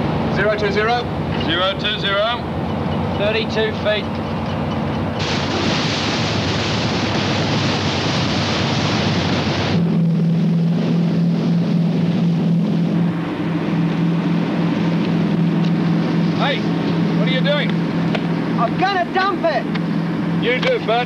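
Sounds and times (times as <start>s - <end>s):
boat engine droning: 0.0s - 21.0s
rushing water and wind: 0.0s - 21.0s.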